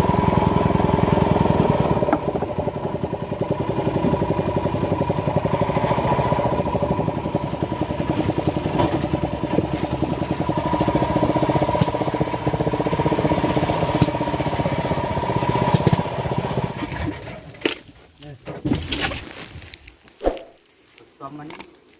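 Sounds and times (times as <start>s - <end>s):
small petrol engine running: 0.0s - 17.7s.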